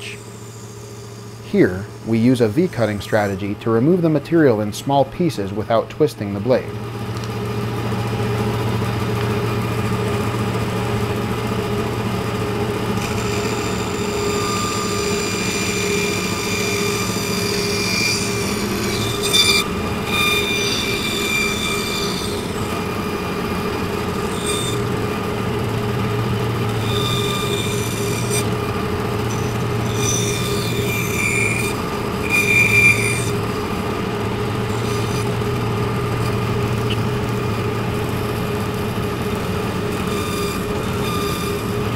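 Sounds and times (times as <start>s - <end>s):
saw blade whining through plywood: 0.0s - 3.5s, 7.9s - 41.9s
bandsaw motor hum: 0.0s - 4.9s, 6.6s - 41.9s.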